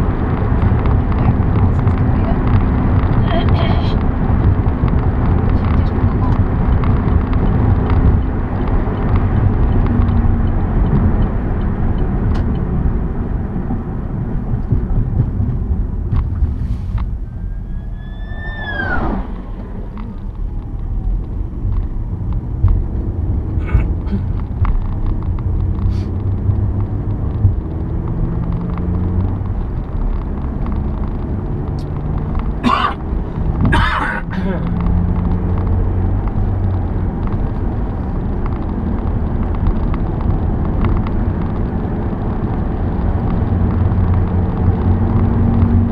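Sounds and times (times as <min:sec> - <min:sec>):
passing vehicle whine: 0:00.0 - 0:40.3
car road and engine rumble: 0:00.0 - 0:45.9.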